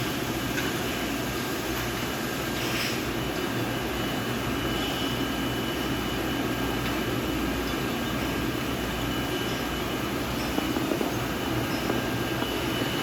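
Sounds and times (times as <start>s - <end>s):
machinery humming: 0.0s - 13.0s
faint high whine: 2.6s - 13.0s.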